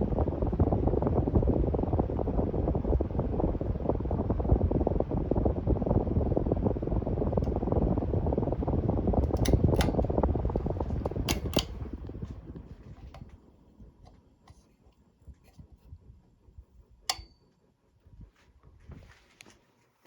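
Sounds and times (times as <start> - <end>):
ceiling fan air rush: 0.0 - 20.0.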